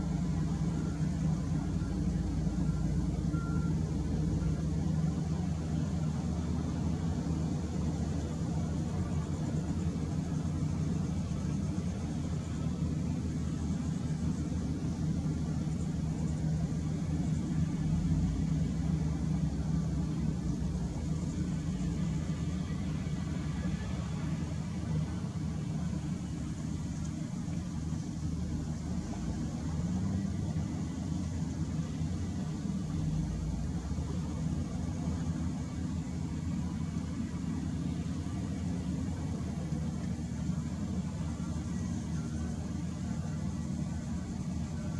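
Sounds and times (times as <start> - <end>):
wheel loader diesel engine: 0.0 - 44.9.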